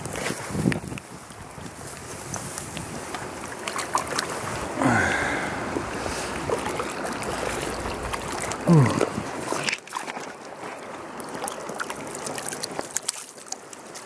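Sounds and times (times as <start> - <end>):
stream water over gravel: 0.0 - 14.0.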